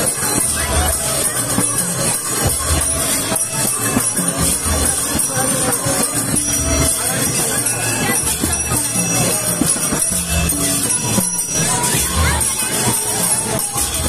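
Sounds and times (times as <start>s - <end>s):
drum beating: 0.0s - 14.0s
jingling bells: 0.0s - 14.0s.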